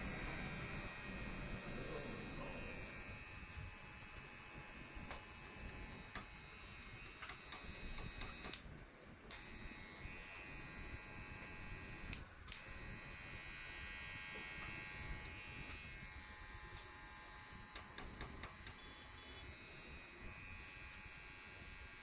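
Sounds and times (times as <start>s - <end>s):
hair clipper buzzing: 0.0s - 8.6s, 9.3s - 22.0s.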